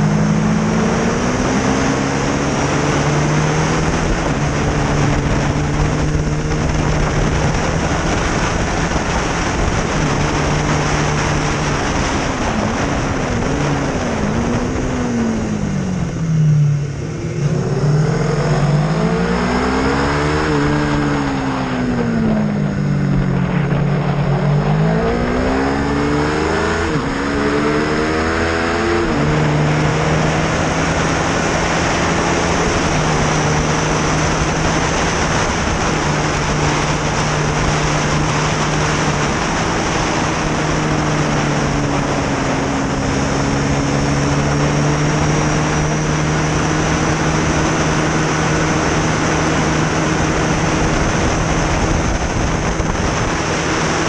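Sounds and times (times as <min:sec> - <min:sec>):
racing motorcycle engine: 0:00.0 - 0:54.0
wind rush: 0:00.0 - 0:54.0.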